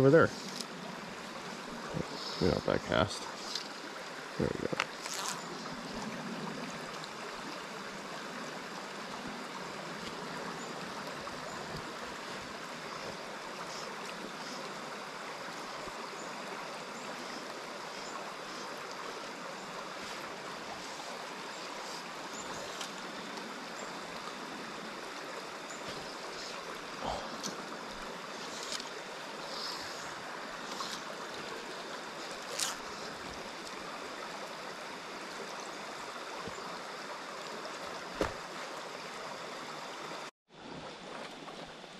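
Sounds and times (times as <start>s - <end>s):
stream running over rocks: 0.0s - 41.9s.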